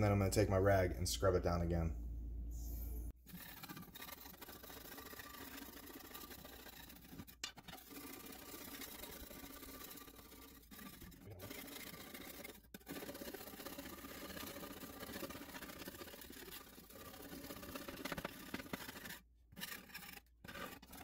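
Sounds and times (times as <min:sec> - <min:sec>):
scraper rasping on cast iron: 0:03.2 - 0:21.0.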